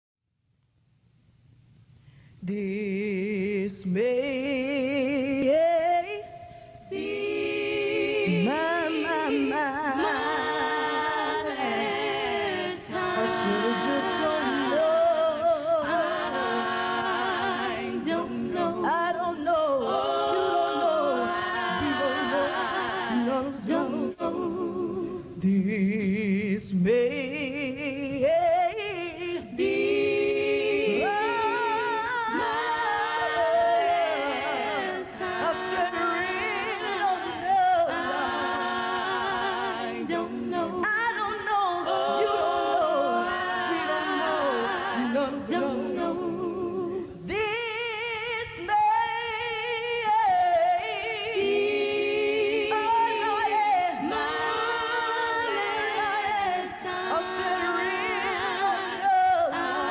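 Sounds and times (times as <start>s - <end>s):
women singing a cappella: 2.4s - 59.9s.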